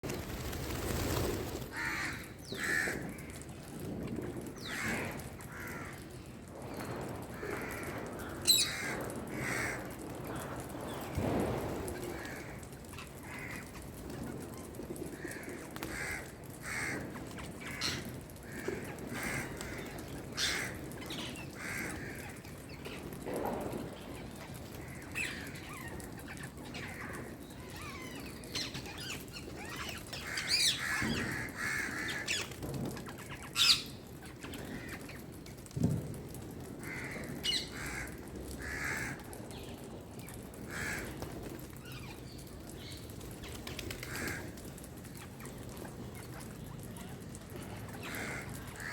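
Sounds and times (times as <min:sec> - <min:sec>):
birds harsh repeated calls: 0:00.4 - 0:48.9.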